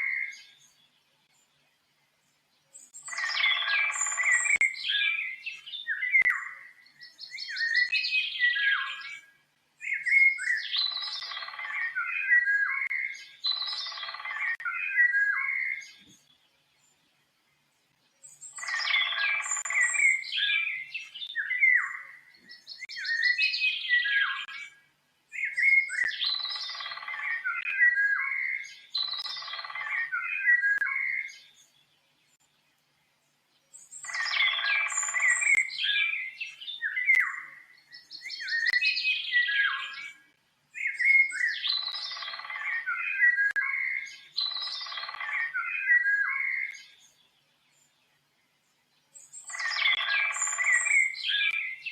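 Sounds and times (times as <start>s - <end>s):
birds chirping and trilling: 0.0s - 51.9s.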